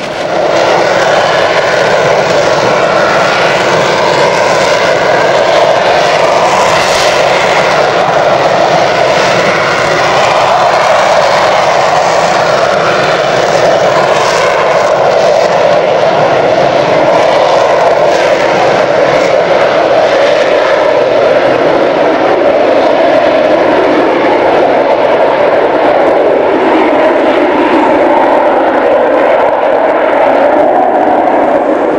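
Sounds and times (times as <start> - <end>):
aircraft engine drone: 0.0 - 31.9.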